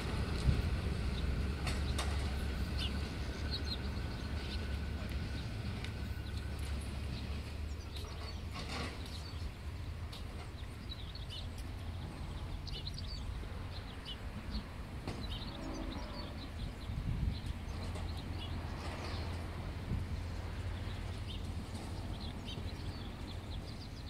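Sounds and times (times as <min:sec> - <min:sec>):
small birds chirping: 0:01.0 - 0:24.0.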